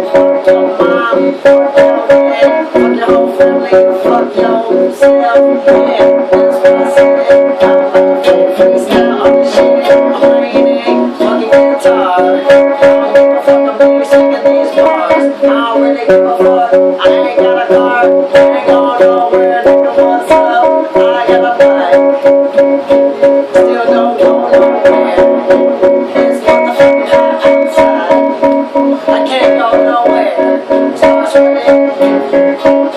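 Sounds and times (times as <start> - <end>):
guitar strumming: 0.0 - 32.9
sustained pitched notes: 0.0 - 32.9.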